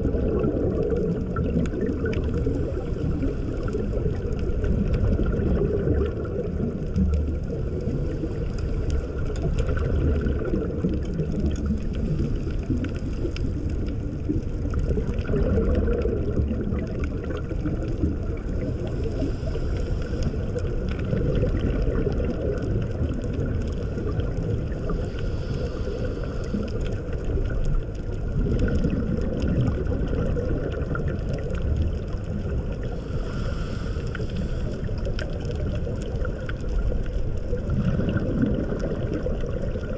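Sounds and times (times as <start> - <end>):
muffled rumble of moving water: 0.0 - 39.9.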